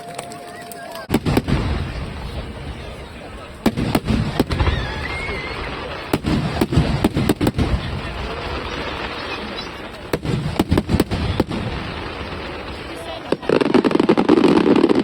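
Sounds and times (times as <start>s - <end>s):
crowd murmur: 0.0s - 15.0s
fireworks crackle: 0.0s - 15.0s
fireworks shells bursting: 0.0s - 15.0s.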